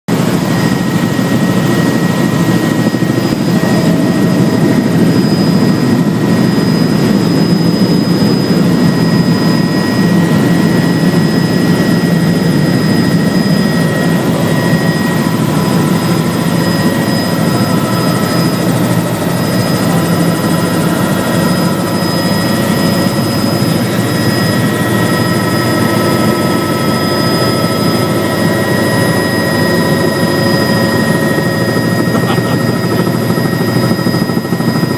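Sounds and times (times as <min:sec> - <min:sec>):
helicopter rotor rumble: 0:00.1 - 0:34.9
high turbine whine: 0:00.1 - 0:34.9.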